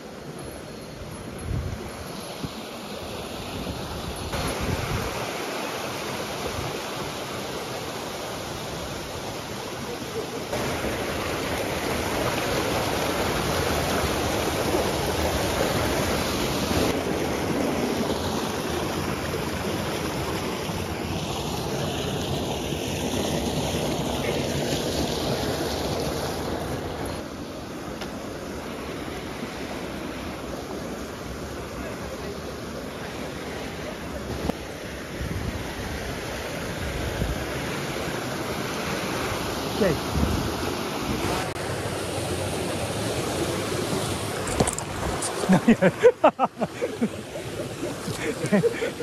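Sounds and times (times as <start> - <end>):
river rushing over boulders: 0.0 - 49.0.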